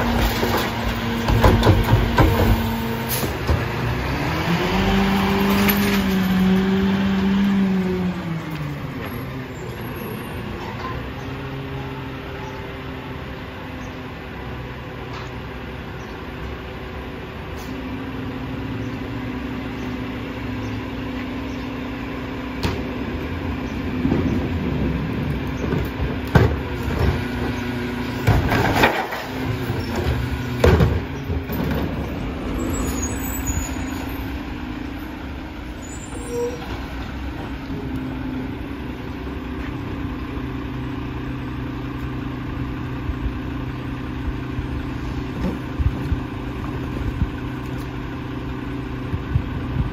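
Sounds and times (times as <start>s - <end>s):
garbage truck diesel engine: 0.0s - 49.9s.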